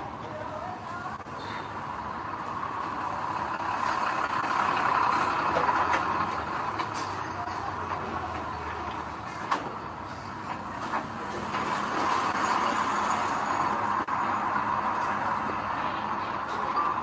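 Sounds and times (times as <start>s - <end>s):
construction machinery engine running: 0.0s - 17.0s.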